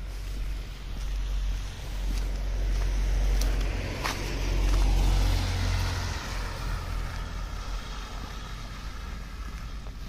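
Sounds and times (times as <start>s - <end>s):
car driving past in slush: 1.3s - 9.8s.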